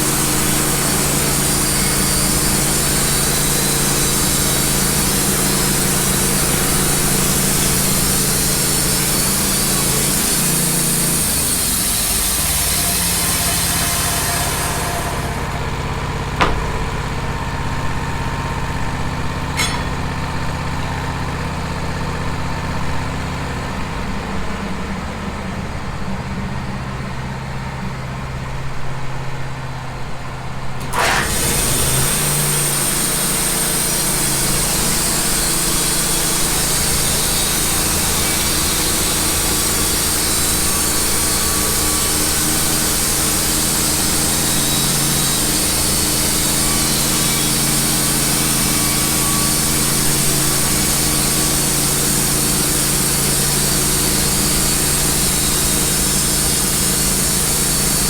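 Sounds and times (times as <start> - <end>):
band sawmill running: 0.0 - 28.6, 29.7 - 58.0.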